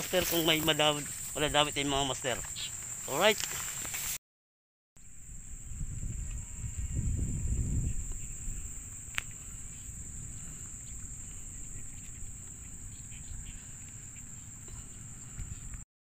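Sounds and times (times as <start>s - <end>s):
insects chirring: 0.0s - 4.1s, 5.0s - 15.8s.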